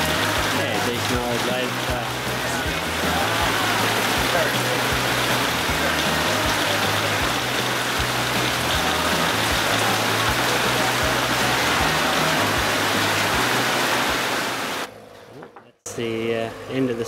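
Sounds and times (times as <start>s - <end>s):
music with slow beat and bass: 0.0s - 14.0s
heavy rain pouring: 0.0s - 14.9s.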